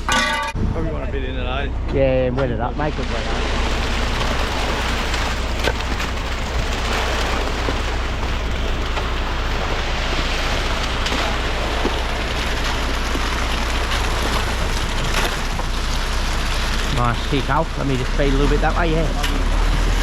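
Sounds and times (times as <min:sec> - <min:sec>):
truck engine hum: 0:00.0 - 0:20.0
wet concrete rushing down chute: 0:00.0 - 0:20.0.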